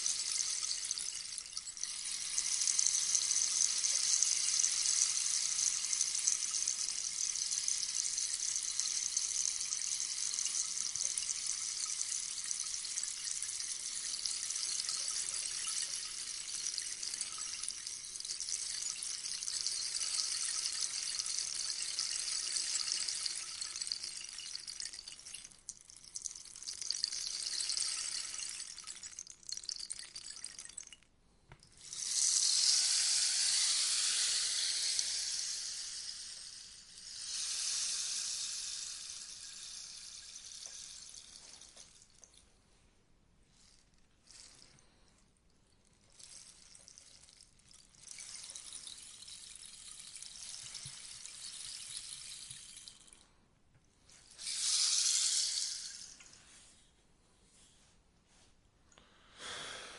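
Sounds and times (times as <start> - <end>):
rainstick beads trickling: 0.0 - 42.5, 43.5 - 45.2, 45.8 - 53.3, 54.0 - 56.7.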